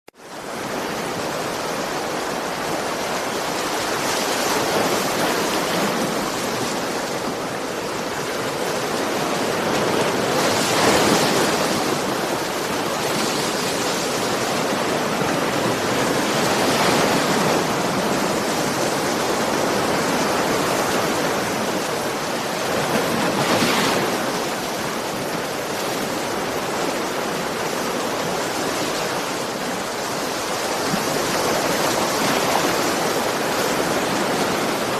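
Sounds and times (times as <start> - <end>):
ocean waves breaking on shore: 0.2 - 34.9.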